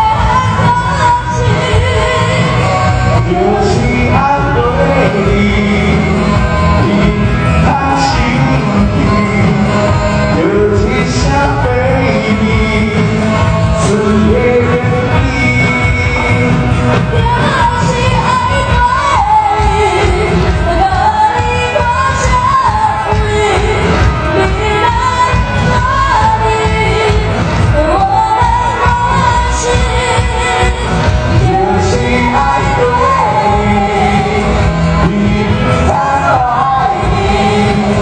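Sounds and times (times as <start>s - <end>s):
lead vocal singing: 0.0s - 38.0s
live band playing pop song: 0.0s - 38.0s.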